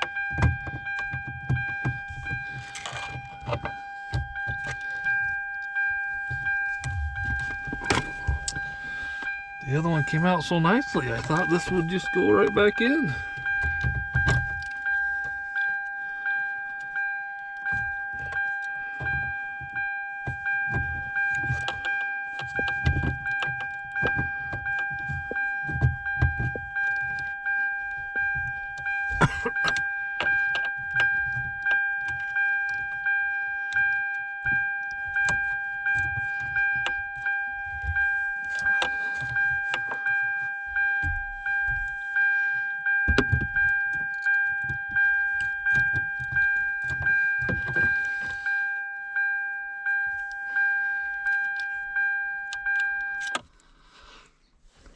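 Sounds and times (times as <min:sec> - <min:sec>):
clicking and rattling of small parts: 0:00.0 - 0:48.6, 0:49.9 - 0:54.1
steady high-pitched tone: 0:00.1 - 0:53.4.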